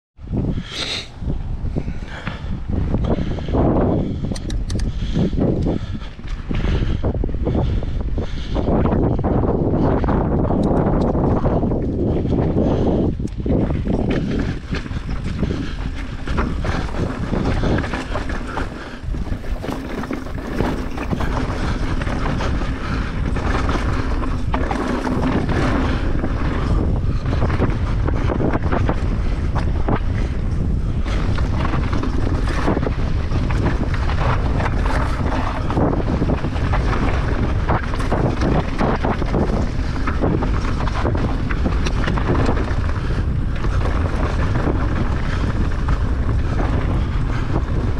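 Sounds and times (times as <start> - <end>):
bike tyres rumbling on dirt trail: 0.2 - 47.9
wind buffeting microphone: 0.2 - 47.9
bike rattling over rocks: 8.6 - 47.9.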